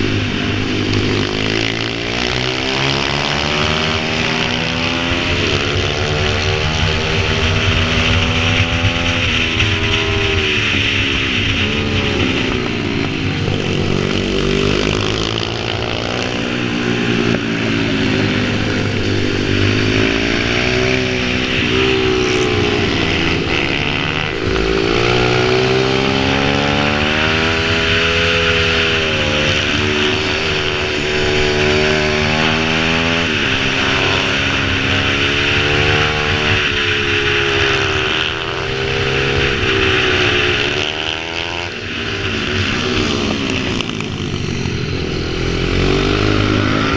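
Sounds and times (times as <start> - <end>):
pit bike engine revving: 0.0 - 46.9.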